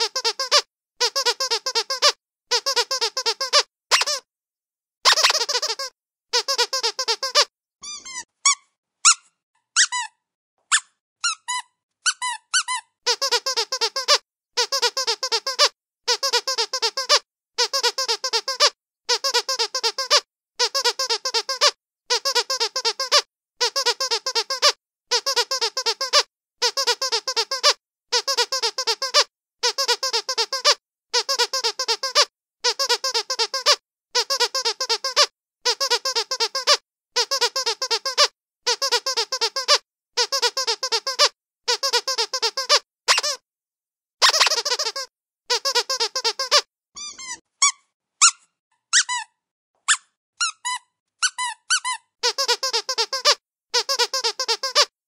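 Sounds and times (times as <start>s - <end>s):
squeaky dog toy squeaking: 0.0s - 4.3s, 5.0s - 43.4s, 44.2s - 54.9s.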